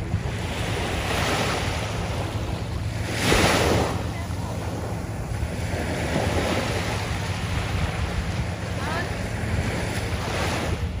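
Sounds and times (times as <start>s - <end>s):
waves washing on sandy beach: 0.0s - 11.0s
wind buffeting microphone: 0.0s - 11.0s.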